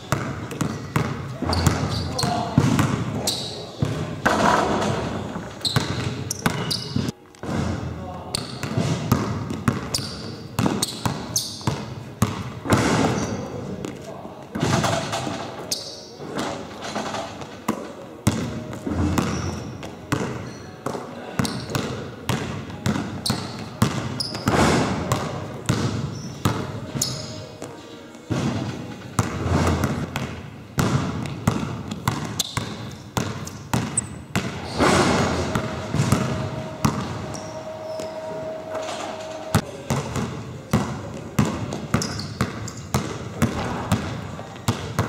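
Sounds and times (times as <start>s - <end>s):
basketball bouncing on wooden court: 0.1s - 13.4s, 14.6s - 27.3s, 28.3s - 38.2s, 39.9s - 45.0s.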